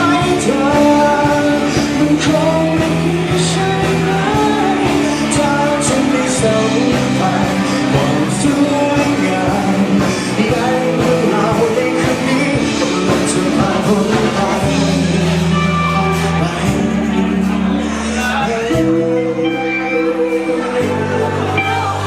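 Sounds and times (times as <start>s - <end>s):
rock song with male singing: 0.0s - 22.0s.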